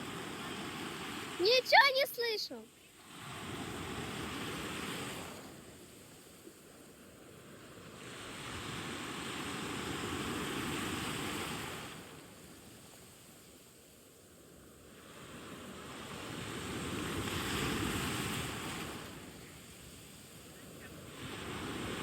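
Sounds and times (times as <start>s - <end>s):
sea waves washing onto shore: 0.0s - 13.4s, 14.5s - 22.0s.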